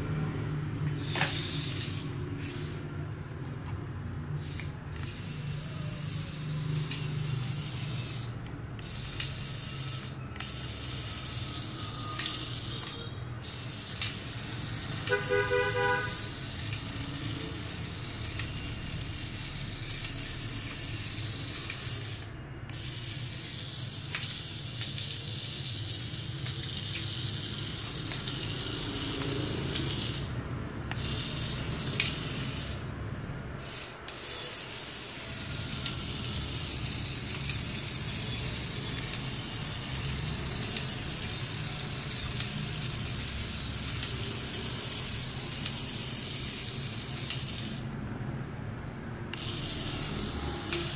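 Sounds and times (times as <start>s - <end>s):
small electric motors whirring: 0.8s - 2.9s, 4.3s - 48.0s, 49.3s - 50.9s.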